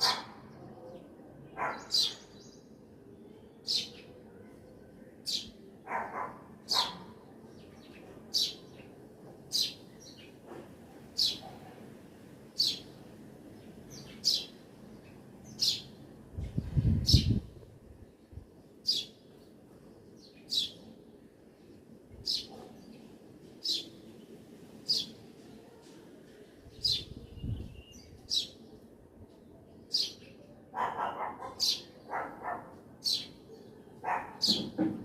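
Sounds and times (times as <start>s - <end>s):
songbird high chirp: 0.0s - 10.4s, 11.2s - 11.6s, 12.6s - 21.3s, 22.2s - 34.8s.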